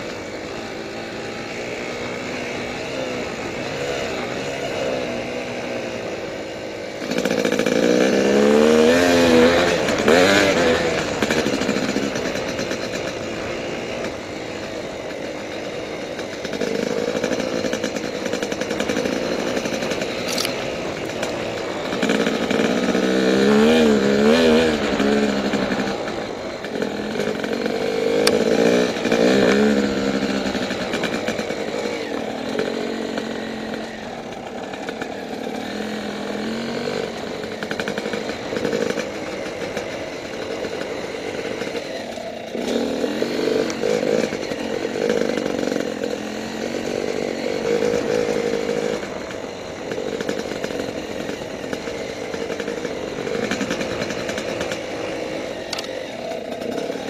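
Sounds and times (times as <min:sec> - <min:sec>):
two-stroke dirt bike engine revving: 0:00.0 - 0:57.0.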